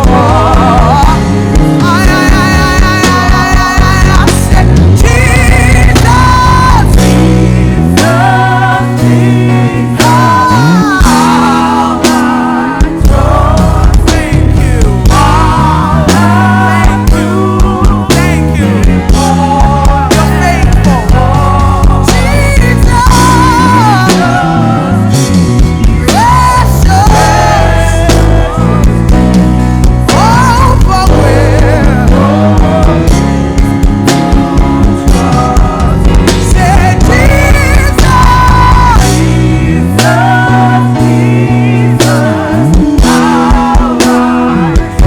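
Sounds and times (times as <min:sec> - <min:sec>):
people singing: 0:00.0 - 0:45.0
worship band music: 0:00.0 - 0:45.0.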